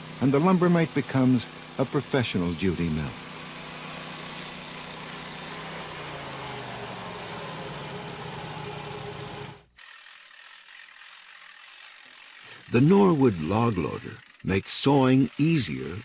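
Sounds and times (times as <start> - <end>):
small sawmill engine running: 0.0 - 16.0.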